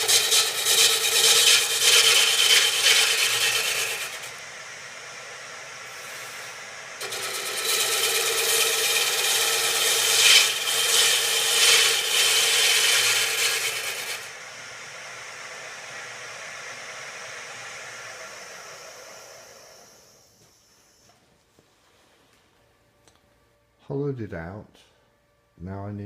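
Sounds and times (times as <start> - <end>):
lathe tool scraping wood: 0.0 - 21.0
lathe running with high whine: 0.0 - 21.2.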